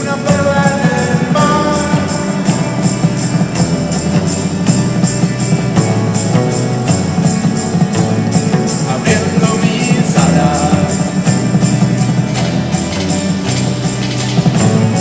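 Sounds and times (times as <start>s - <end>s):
band playing a song: 0.0s - 15.0s
crisp high percussion strokes: 0.0s - 15.0s
sustained melodic notes: 0.0s - 15.0s.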